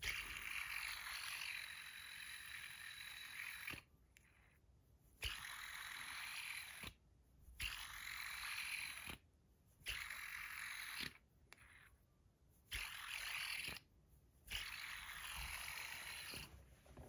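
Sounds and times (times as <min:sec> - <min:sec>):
fidget spinner bearing whir: 0:00.0 - 0:07.0, 0:07.6 - 0:09.2, 0:09.8 - 0:12.0, 0:12.7 - 0:13.9, 0:14.5 - 0:16.5.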